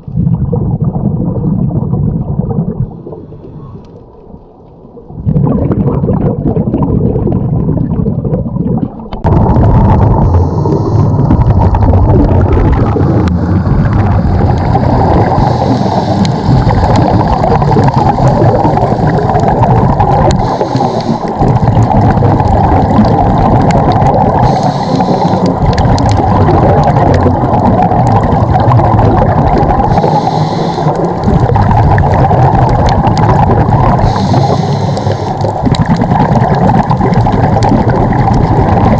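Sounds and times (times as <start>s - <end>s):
exhaled bubbles gurgling: 0.0s - 38.9s
underwater rumble of water: 0.0s - 38.9s.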